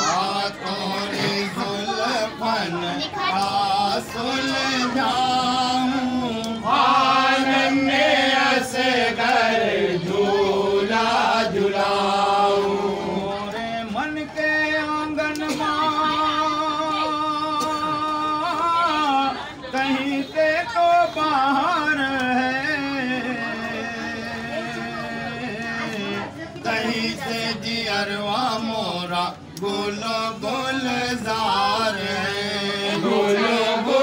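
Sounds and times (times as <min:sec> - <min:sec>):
men singing devotional song: 0:00.0 - 0:34.0.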